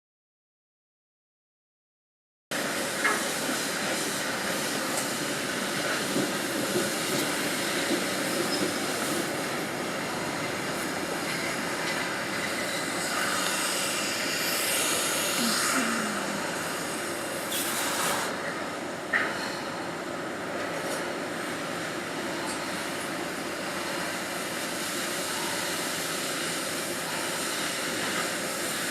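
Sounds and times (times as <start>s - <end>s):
steady industrial hiss and din: 2.5s - 28.9s.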